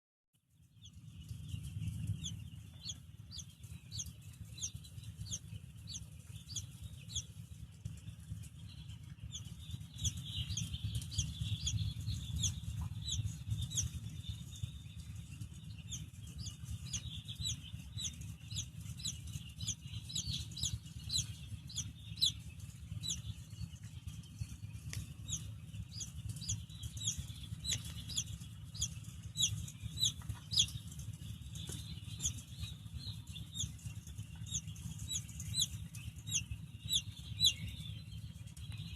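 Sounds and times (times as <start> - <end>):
baby chick peeping: 0.6 - 38.9
steady low hum: 0.6 - 38.9.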